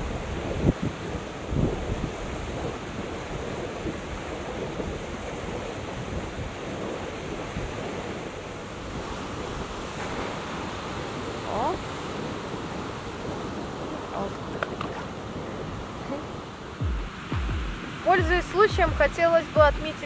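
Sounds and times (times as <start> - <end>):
water rushing: 0.0 - 20.0
wind buffeting microphone: 0.0 - 20.0.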